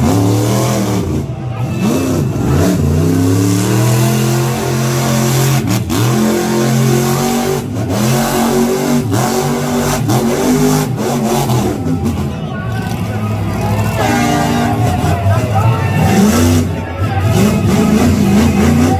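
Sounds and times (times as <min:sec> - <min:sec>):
truck engine revving: 0:00.0 - 0:18.9.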